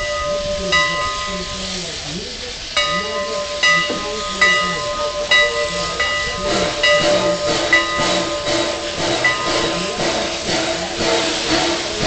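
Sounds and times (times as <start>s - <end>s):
locomotive bell ringing: 0.0s - 2.0s, 2.7s - 12.0s.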